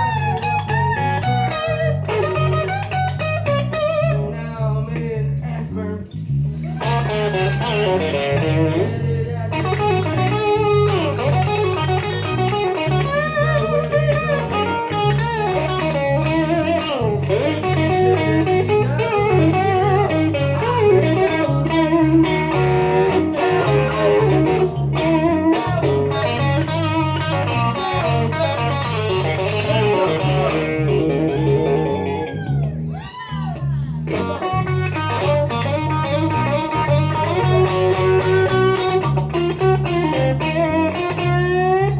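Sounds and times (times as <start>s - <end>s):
electric guitar lead with bends: 0.0s - 4.4s, 5.7s - 41.9s
electric bass line: 0.0s - 41.9s.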